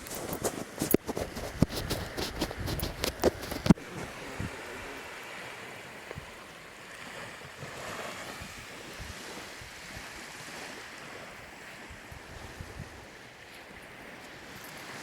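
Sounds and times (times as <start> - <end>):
wind buffeting microphone: 0.0 - 5.2, 6.0 - 15.0
ocean surf on beach: 0.0 - 15.0.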